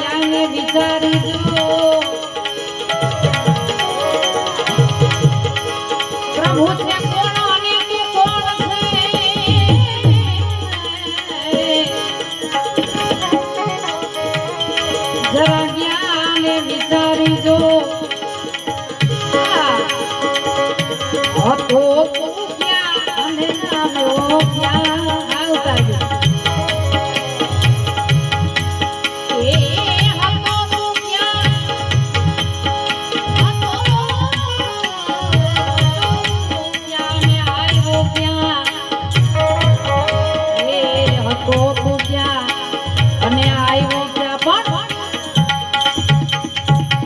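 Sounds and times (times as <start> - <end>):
rattling hand percussion: 0.0 - 47.0
tabla rhythm: 0.0 - 47.0.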